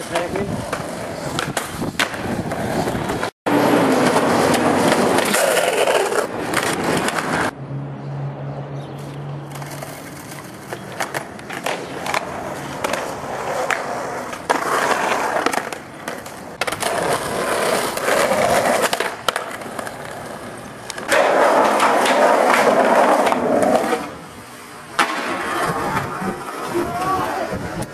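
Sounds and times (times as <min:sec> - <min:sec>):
skateboard clacks: 0:00.0 - 0:07.5, 0:09.5 - 0:24.2, 0:24.9 - 0:27.9
skateboard wheels rolling on asphalt: 0:00.0 - 0:07.6, 0:08.9 - 0:27.9.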